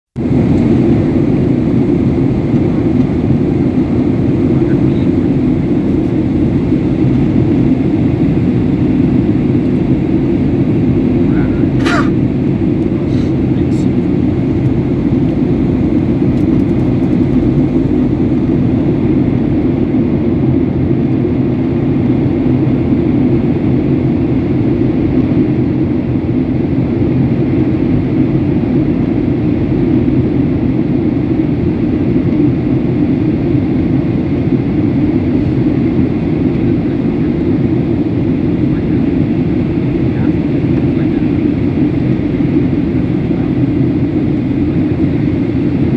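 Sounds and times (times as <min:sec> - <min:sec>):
airliner cabin engine drone: 0:00.2 - 0:45.9.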